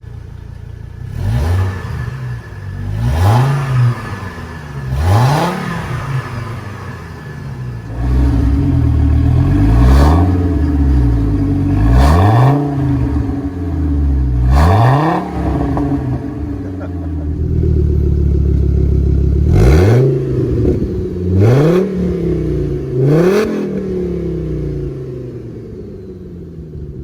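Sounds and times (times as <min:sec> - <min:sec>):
engine idling and revving: 0:00.0 - 0:27.0.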